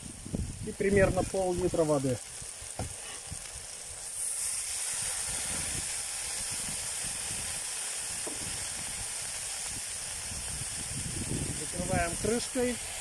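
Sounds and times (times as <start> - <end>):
water hissing on hot metal: 0.0 - 13.0.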